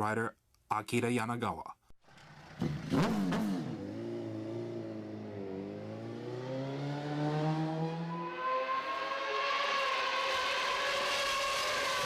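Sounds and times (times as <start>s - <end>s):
race motorcycle engine: 2.0s - 12.0s.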